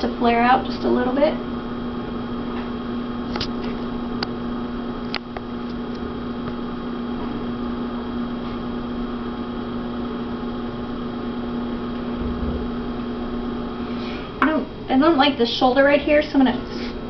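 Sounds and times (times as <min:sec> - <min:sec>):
potter's wheel motor humming: 0:00.0 - 0:17.0.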